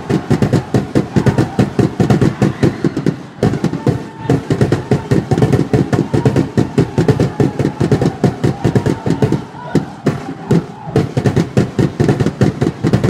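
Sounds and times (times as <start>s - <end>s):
rapid percussive hits: 0.0s - 13.0s.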